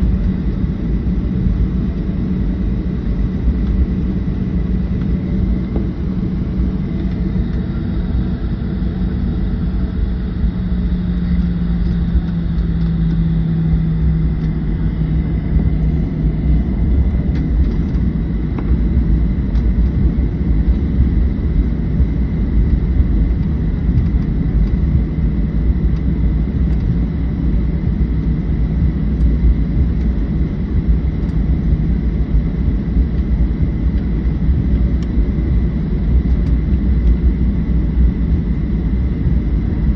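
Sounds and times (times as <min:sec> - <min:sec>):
faint high whine: 0:00.0 - 0:39.9
jet engines rumbling in cabin: 0:00.0 - 0:39.9.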